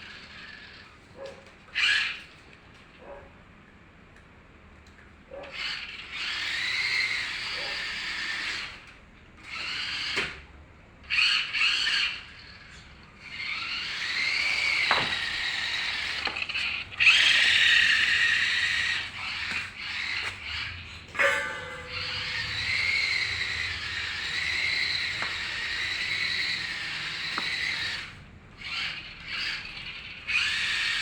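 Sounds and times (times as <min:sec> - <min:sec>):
rc car high-pitched whine: 0:01.7 - 0:02.4, 0:05.5 - 0:10.4, 0:11.0 - 0:31.0.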